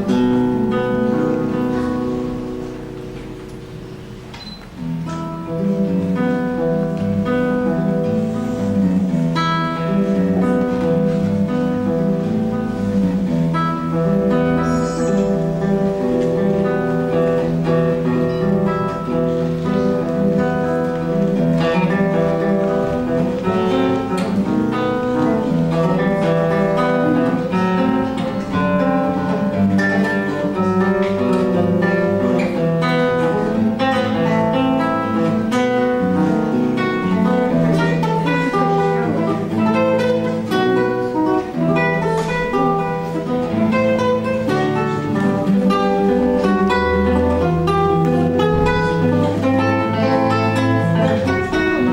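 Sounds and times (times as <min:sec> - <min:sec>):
plucked string instrument: 0:00.0 - 0:51.9.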